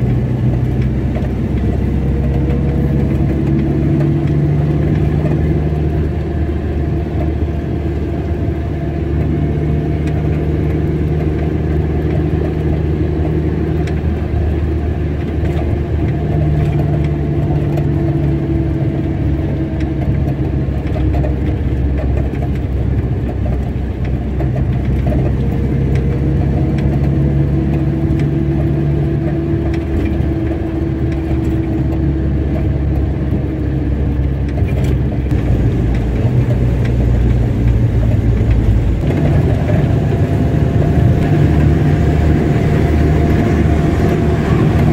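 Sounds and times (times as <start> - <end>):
car engine hum: 0.0 - 44.9
road noise: 0.0 - 44.9.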